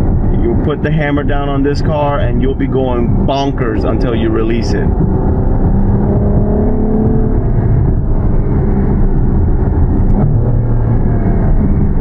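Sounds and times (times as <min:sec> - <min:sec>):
car engine drone from cabin: 0:00.0 - 0:12.0.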